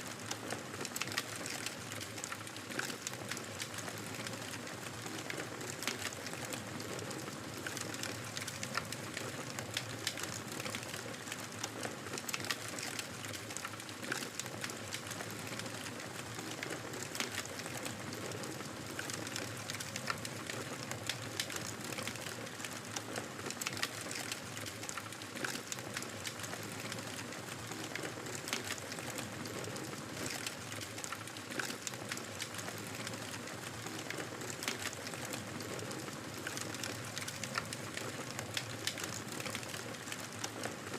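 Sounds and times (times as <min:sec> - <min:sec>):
wood fire crackling and popping: 0:00.2 - 0:40.9.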